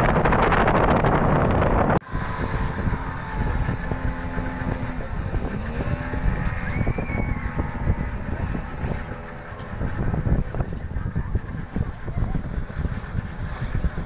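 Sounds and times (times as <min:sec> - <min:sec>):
speedboat engine running: 0:00.0 - 0:14.0.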